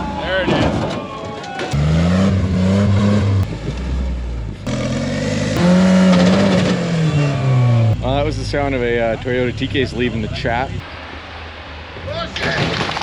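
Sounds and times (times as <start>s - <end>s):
truck engine revving: 1.6s - 12.0s.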